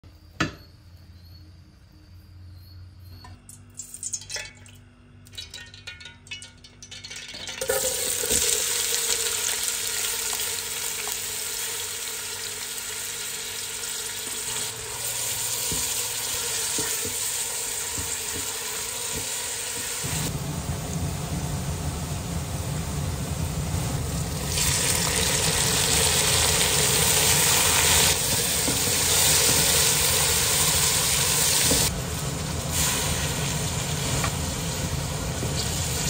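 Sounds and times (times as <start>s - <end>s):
onions sizzling in hot oil: 5.4s - 36.0s.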